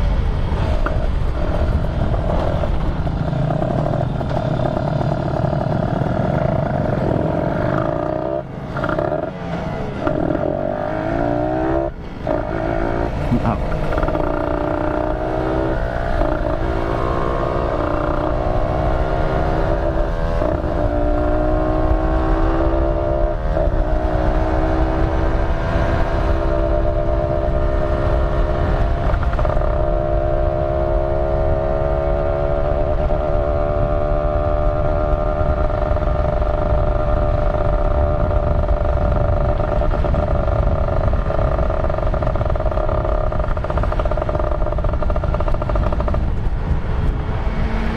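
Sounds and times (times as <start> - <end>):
motorcycle engine shifting gears: 0.0 - 47.9.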